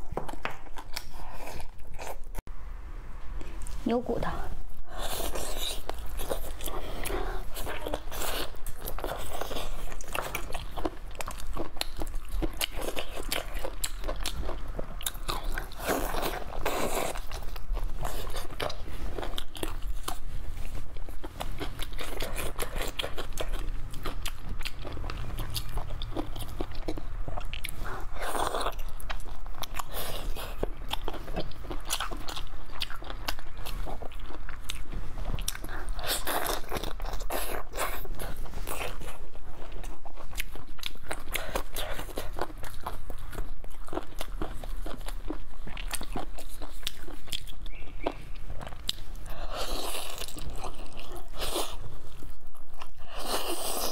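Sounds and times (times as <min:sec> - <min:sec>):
chewing and gnawing meat off bones: 0:00.0 - 0:02.4, 0:05.0 - 0:53.9.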